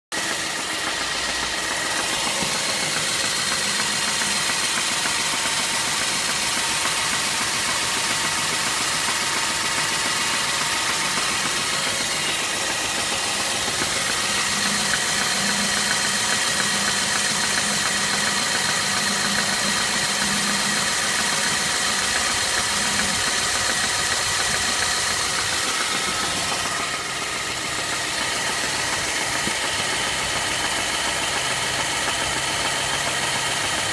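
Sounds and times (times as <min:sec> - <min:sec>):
engine knock: 0:00.0 - 0:33.9
petrol engine idling: 0:00.1 - 0:33.9.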